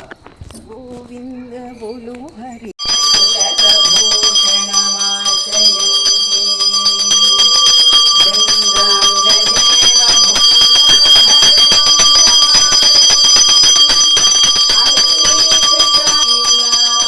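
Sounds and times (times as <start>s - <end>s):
hand bell ringing rapidly: 2.8s - 17.0s.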